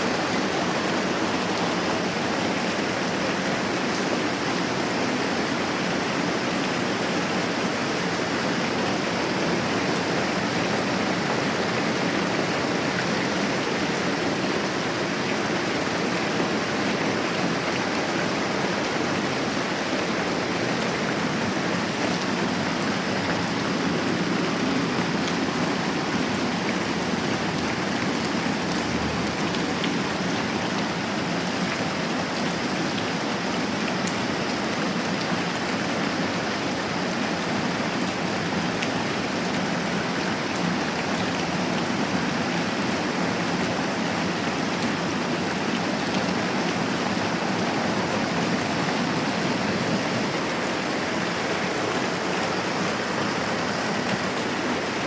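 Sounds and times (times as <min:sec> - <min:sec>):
steady moderate rain: 0:00.0 - 0:55.0.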